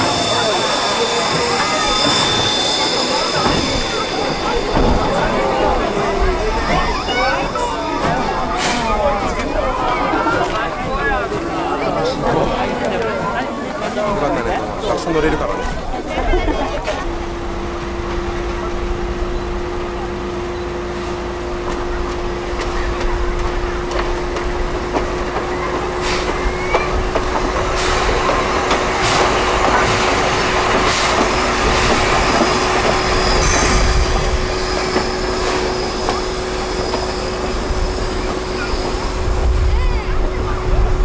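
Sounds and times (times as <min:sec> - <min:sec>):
steam locomotive hum and hiss: 0:00.0 - 0:41.0.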